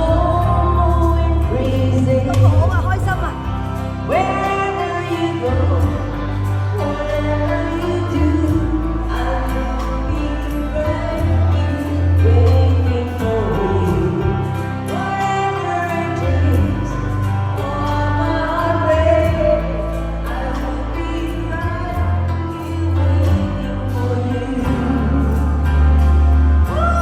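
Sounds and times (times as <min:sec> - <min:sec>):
lead singer singing: 0:00.0 - 0:27.0
strong bass line: 0:00.0 - 0:27.0.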